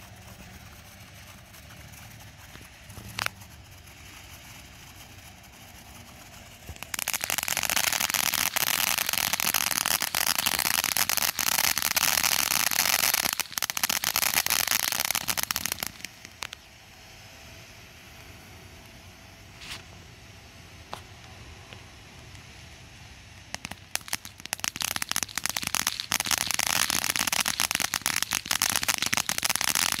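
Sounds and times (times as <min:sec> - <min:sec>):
firework crackling hiss: 0:00.0 - 0:30.0.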